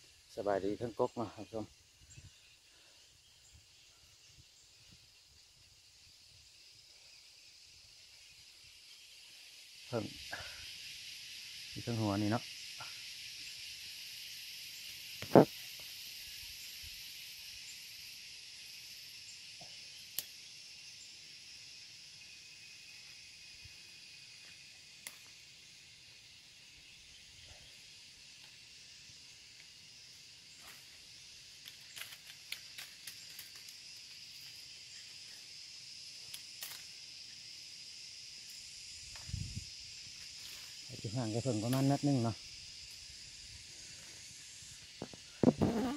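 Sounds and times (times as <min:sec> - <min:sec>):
forest insects droning: 0:00.0 - 0:45.9.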